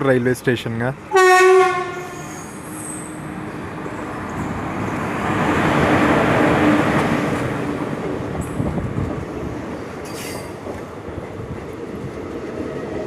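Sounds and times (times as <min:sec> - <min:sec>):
train passing on tracks: 0:00.0 - 0:13.0.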